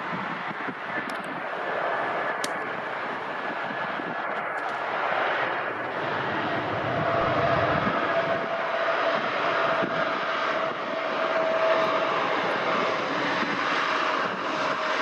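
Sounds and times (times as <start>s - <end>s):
jet engines roaring and whining: 0.0s - 15.0s.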